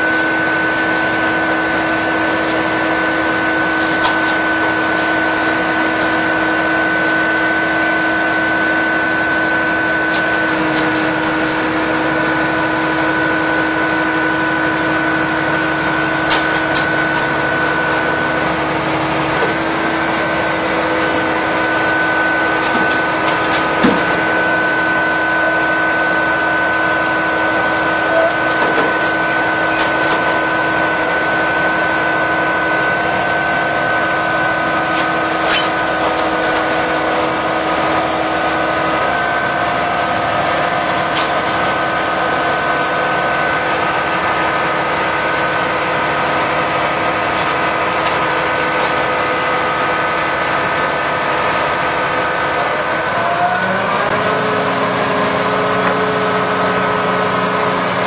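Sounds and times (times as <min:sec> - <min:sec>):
machine hum: 0:00.0 - 0:58.0
steady machine whine: 0:00.0 - 0:58.0.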